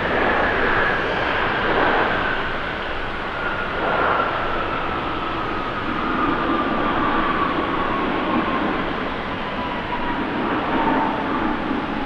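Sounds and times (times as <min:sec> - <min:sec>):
jet engines roaring and whining: 0:00.0 - 0:12.0.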